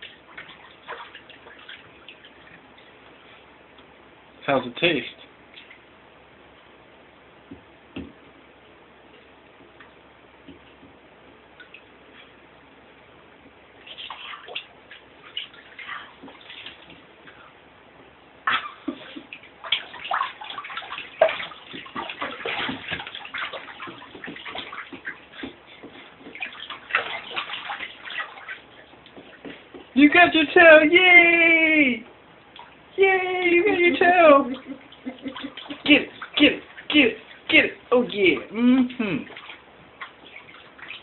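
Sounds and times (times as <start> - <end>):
water splashing in a bathtub: 0.0 - 6.6, 9.2 - 41.0.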